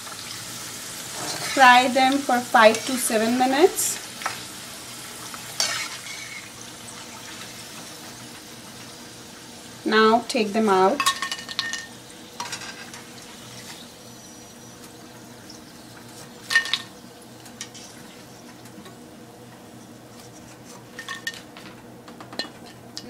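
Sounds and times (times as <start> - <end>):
frying oil bubbling: 0.0 - 21.4.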